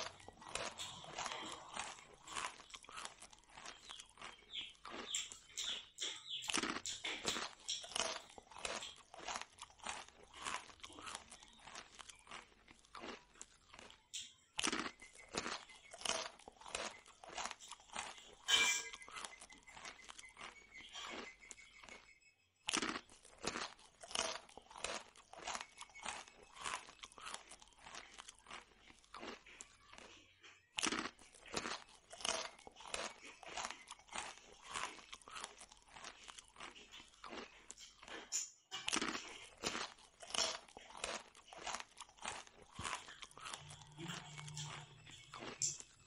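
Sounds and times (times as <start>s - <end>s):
person crunching fried bread: 0.0s - 22.1s, 22.7s - 46.0s.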